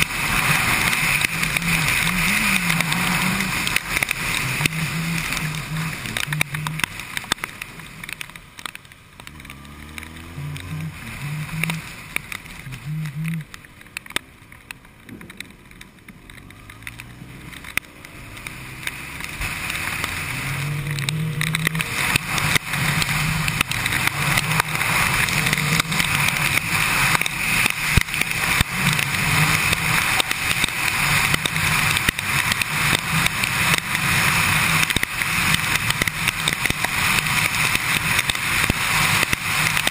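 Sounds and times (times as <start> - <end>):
wet tyre hiss: 0.0 - 13.4, 16.4 - 39.9
motorcycle engine revving: 0.0 - 39.9
sharp ticks: 0.0 - 39.9.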